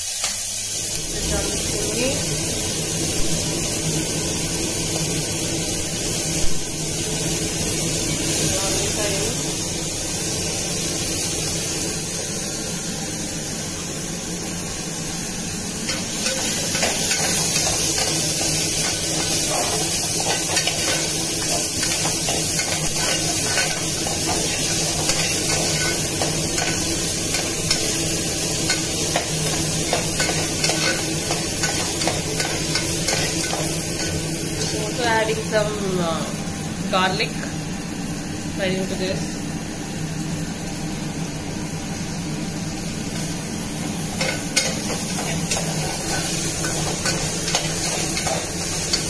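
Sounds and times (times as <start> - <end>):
onions sizzling in oil: 0.0 - 49.0.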